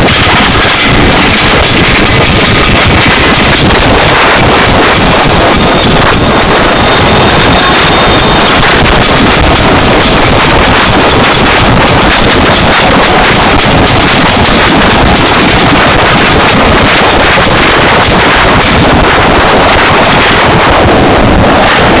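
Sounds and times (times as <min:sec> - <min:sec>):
harsh distorted noise music: 0:00.0 - 0:22.0.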